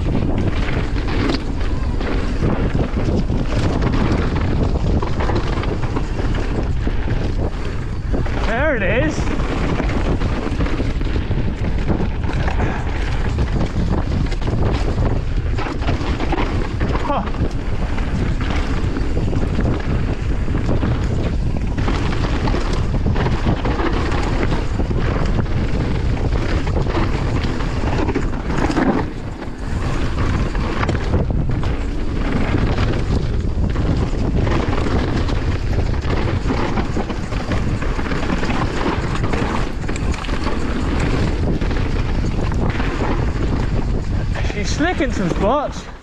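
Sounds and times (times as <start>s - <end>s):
bike knocking and rattling: 0.0s - 46.0s
tyre noise on dirt: 0.0s - 46.0s
wind buffeting microphone: 0.0s - 46.0s.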